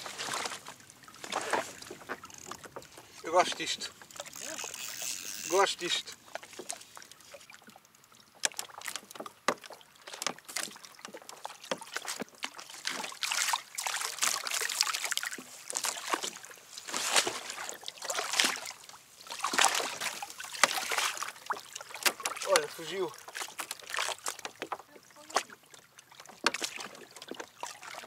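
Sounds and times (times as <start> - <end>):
water splashing at kayak: 0.0 - 28.0.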